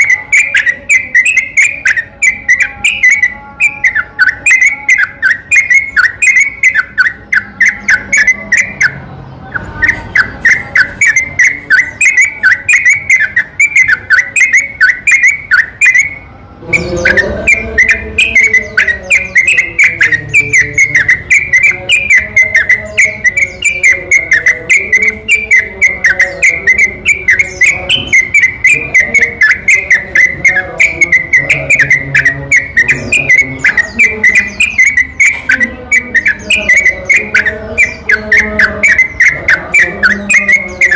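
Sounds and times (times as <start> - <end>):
bird whistled chirping song: 0.0 - 40.9
lower wavering bird calls: 0.0 - 40.9.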